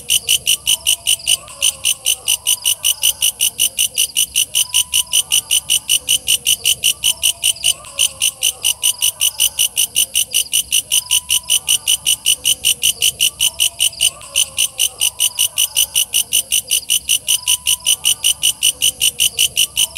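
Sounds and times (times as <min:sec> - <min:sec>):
katydid chirping: 0:00.0 - 0:19.9.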